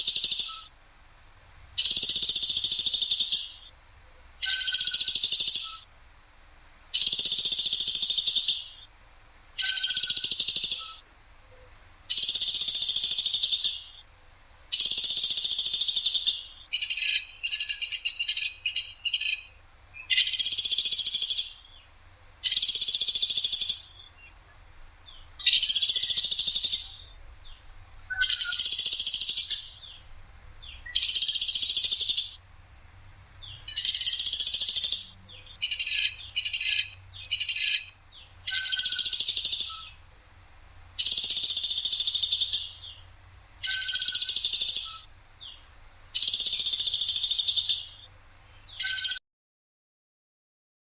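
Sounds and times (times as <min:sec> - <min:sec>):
woodpecker rattling calls: 0:00.0 - 0:00.8, 0:01.5 - 0:03.8, 0:04.4 - 0:05.9, 0:07.0 - 0:08.9, 0:09.6 - 0:24.3, 0:25.1 - 0:32.6, 0:33.4 - 0:40.0, 0:40.7 - 0:49.2.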